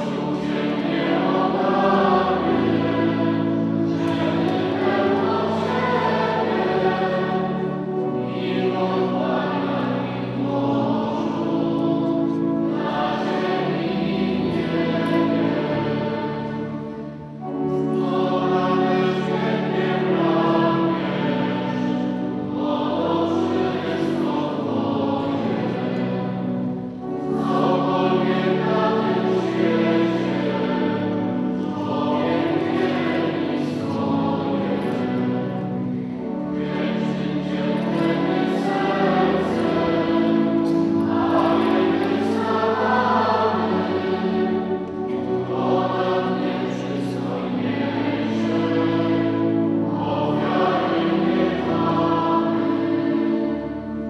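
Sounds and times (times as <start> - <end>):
choir singing sacred music: 0.0 - 54.0.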